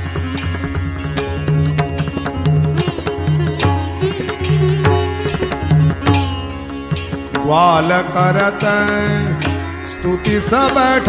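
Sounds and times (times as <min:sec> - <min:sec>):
plucked strings: 0:00.0 - 0:11.0.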